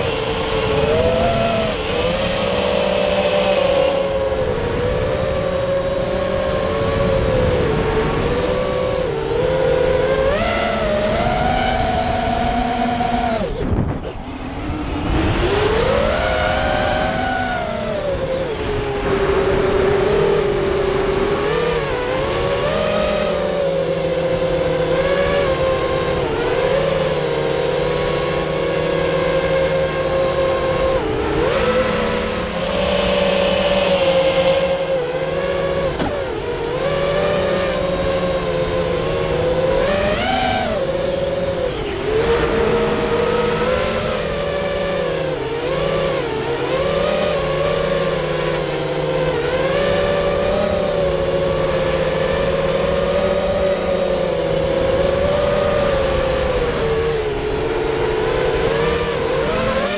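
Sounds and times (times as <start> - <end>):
quadcopter motors whining: 0.0 - 59.9.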